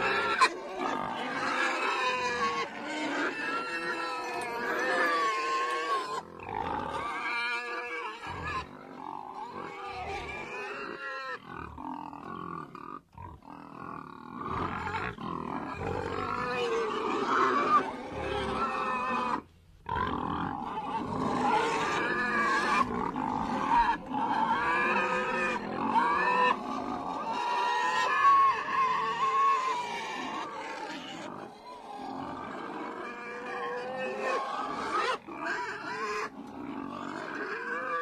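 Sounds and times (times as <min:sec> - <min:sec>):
pigs grunting and squealing: 0:00.0 - 0:38.0.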